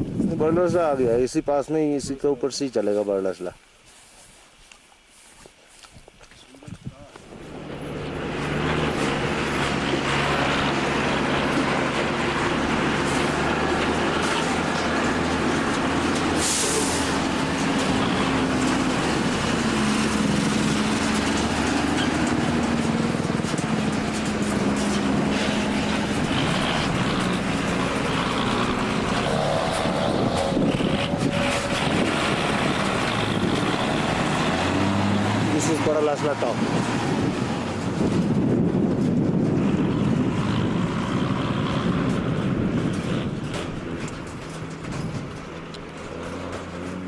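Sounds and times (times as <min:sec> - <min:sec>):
vehicle engine humming: 0:06.5 - 0:47.0.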